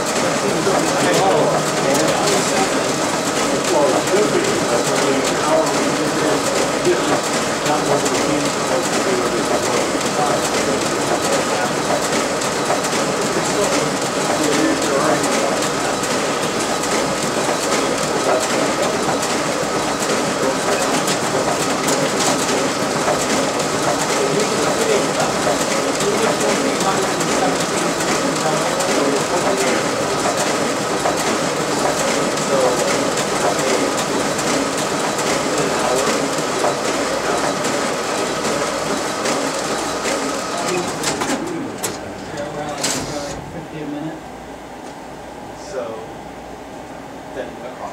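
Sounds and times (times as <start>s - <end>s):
printer whirring: 0.0s - 47.9s.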